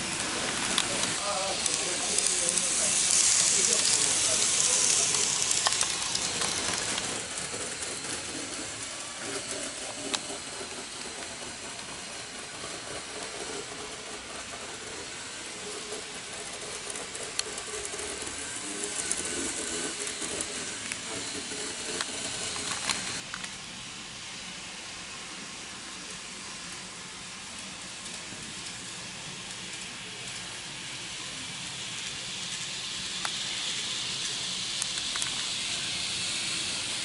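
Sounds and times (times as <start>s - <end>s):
model train wheels hissing: 0.0s - 23.3s, 24.3s - 37.0s
small motor humming: 0.0s - 23.3s, 29.6s - 37.0s.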